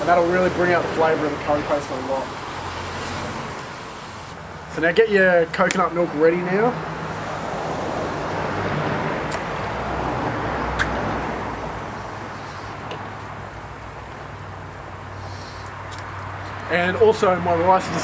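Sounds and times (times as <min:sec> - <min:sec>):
passing vehicle road hiss: 0:00.0 - 0:04.8, 0:06.0 - 0:18.0.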